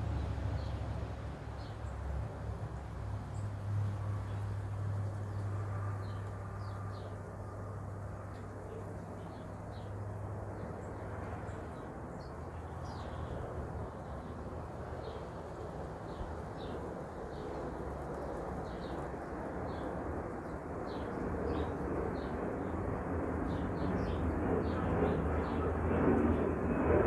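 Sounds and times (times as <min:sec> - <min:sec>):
songbirds chirping: 0:00.0 - 0:26.8.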